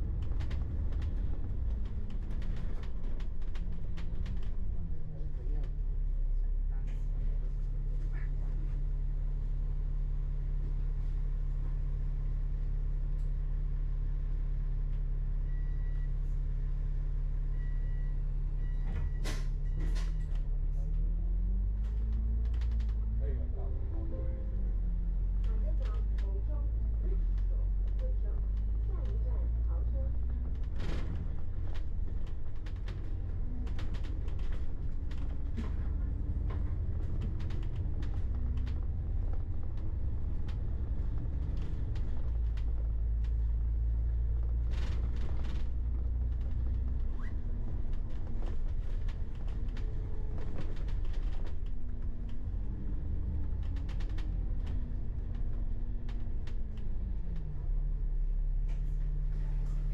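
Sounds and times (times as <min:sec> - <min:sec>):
bus body creaks and rattles: 0:00.0 - 0:59.9
bus engine rumble: 0:00.0 - 0:59.9.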